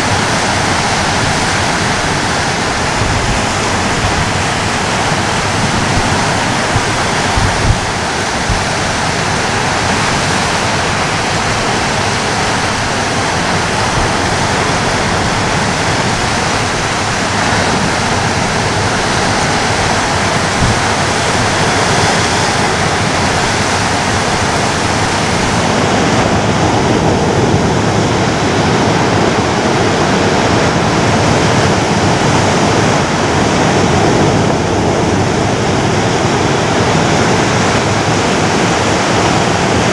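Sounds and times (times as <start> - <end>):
waves breaking on a shore: 0.0 - 39.9.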